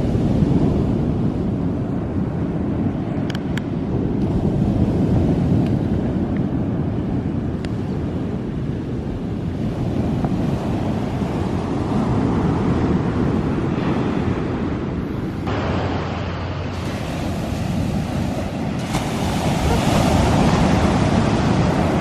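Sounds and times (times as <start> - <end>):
ocean surf: 0.0 - 22.0
wind buffeting microphone: 0.0 - 22.0.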